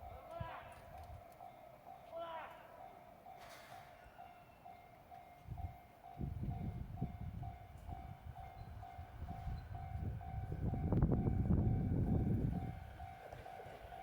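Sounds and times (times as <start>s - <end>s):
train rumble and wheel clatter: 0.0s - 14.0s.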